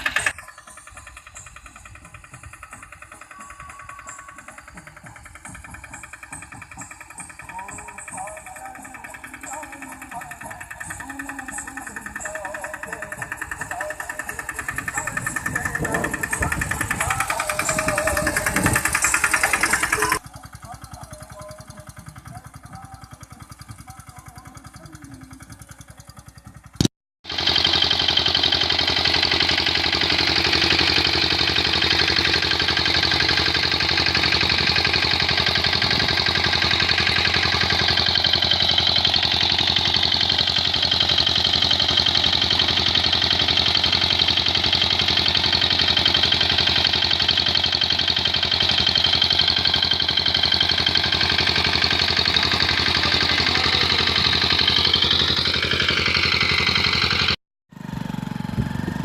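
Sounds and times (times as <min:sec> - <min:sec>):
engine with fast even beat: 0:00.0 - 0:59.0
loud vehicle engine running: 0:00.0 - 0:59.0.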